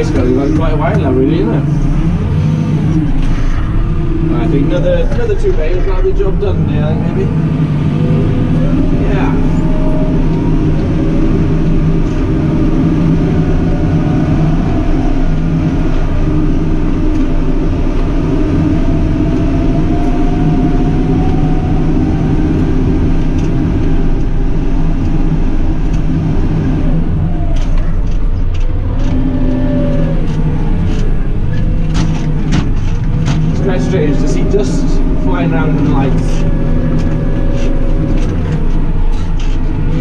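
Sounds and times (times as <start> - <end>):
diesel engine under load: 0.0 - 40.0.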